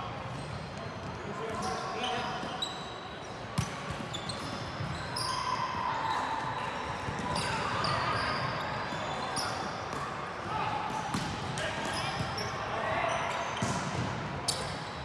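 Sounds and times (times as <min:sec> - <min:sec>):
sneaker squeaks on court floor: 0:00.2 - 0:10.2, 0:11.1 - 0:15.0.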